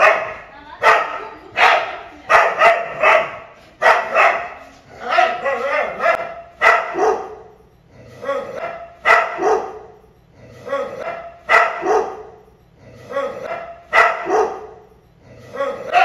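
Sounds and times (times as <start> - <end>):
dog barking: 0.0 - 7.6, 8.2 - 10.0, 10.6 - 12.4, 13.1 - 14.9, 15.5 - 16.0.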